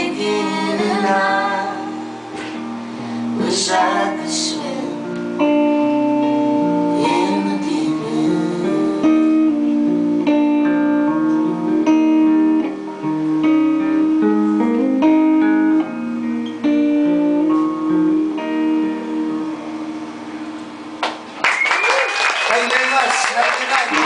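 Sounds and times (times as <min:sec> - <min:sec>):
guitar strumming chords: 0:00.0 - 0:21.4.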